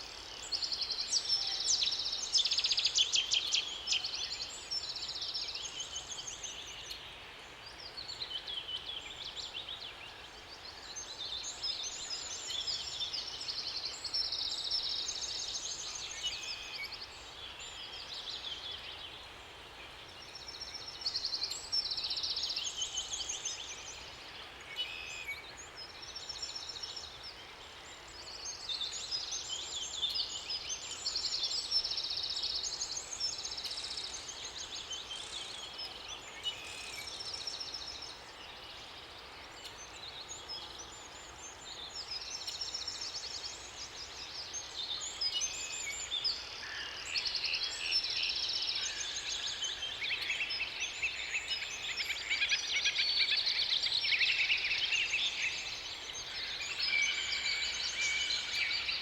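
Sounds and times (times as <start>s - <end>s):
faint steady background hiss: 0.0s - 59.0s
songbirds singing: 0.0s - 59.0s.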